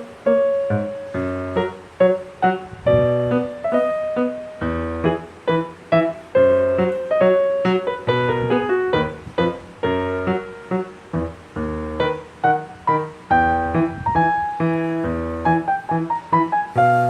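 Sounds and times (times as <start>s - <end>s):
lively piano music: 0.0s - 17.0s.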